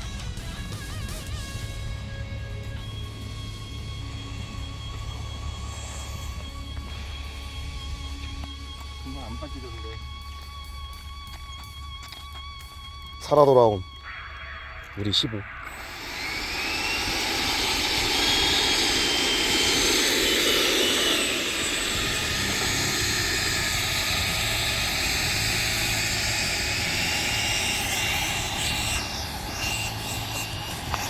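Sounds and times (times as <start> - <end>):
electric ducted fan whine: 0.0 - 31.0.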